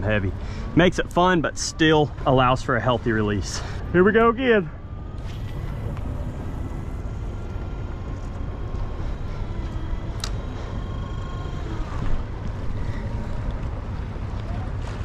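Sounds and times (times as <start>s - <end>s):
electric motor whine: 0.0s - 15.0s
water around boat: 0.0s - 15.0s
wind: 0.0s - 15.0s.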